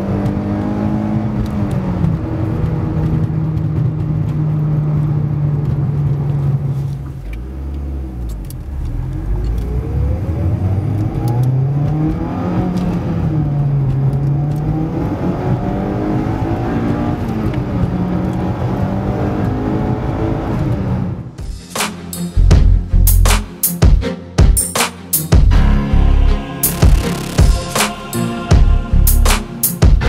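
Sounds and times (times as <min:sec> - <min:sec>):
car engine and exhaust driving: 0:00.0 - 0:21.5, 0:25.3 - 0:30.0.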